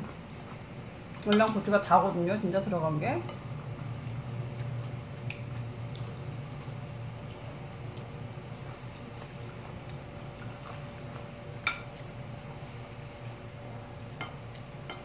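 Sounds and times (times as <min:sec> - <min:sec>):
soft eating noises: 0:00.0 - 0:15.0.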